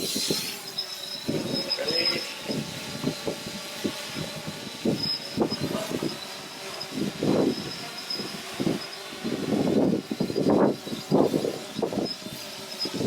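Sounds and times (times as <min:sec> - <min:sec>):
drone motors whining: 0:00.0 - 0:13.0
wind buffeting microphone: 0:01.2 - 0:13.0.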